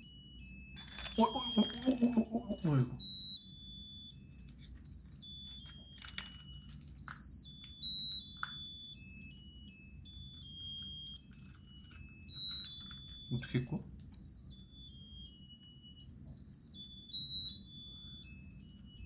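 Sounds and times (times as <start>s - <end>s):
high-pitched beeping melody: 0.0s - 19.0s.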